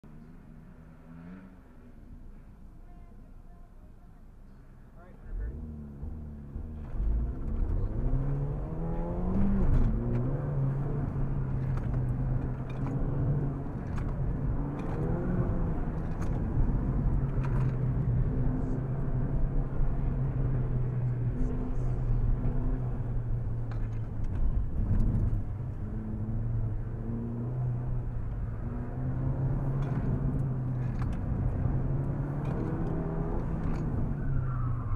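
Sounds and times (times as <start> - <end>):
car engine revving: 5.3 - 34.9.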